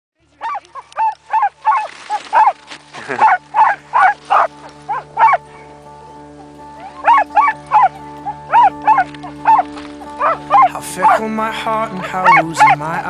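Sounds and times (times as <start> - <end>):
steady music tones: 0.2 - 13.0
sled dogs barking and yelping: 0.4 - 13.0.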